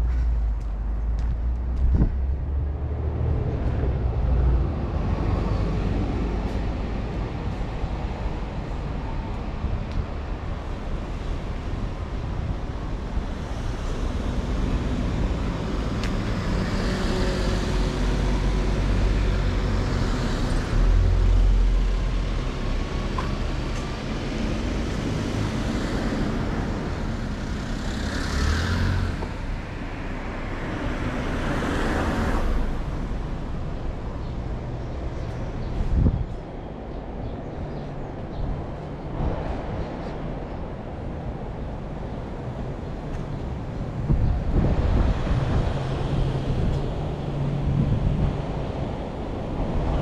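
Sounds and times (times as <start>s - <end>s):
cars passing: 0.0s - 50.0s
traffic rumble: 0.0s - 50.0s.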